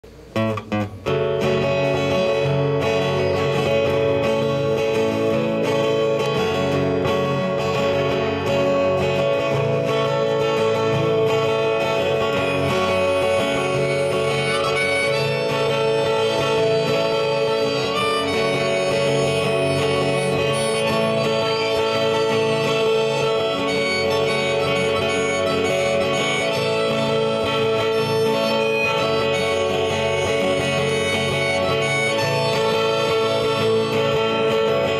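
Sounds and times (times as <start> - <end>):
acoustic guitars strumming: 0.0 - 34.9
harmonica melody: 0.8 - 34.9.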